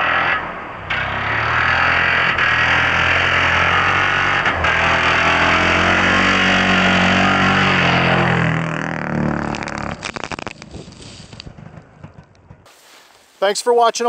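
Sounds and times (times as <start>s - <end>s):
dirt bike two-stroke engine: 0.9s - 12.8s.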